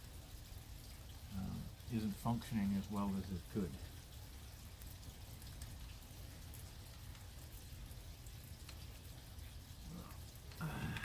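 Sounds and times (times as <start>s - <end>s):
raindrops ticking: 0.0s - 11.0s.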